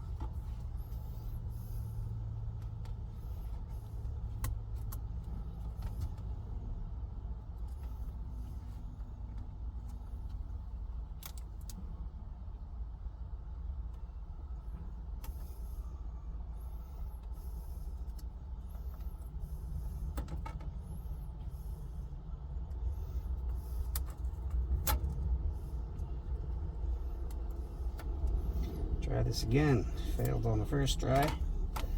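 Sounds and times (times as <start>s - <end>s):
truck engine idling: 0.0s - 31.9s.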